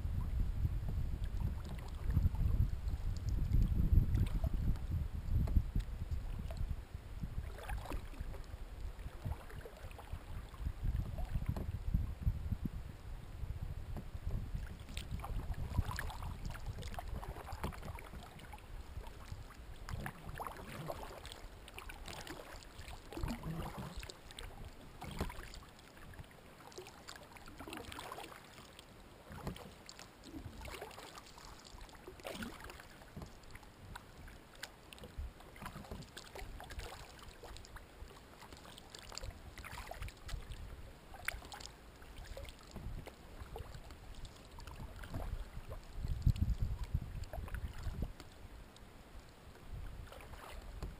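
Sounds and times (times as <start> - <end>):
paddle splashing in water: 7.4 - 11.8, 13.9 - 50.9.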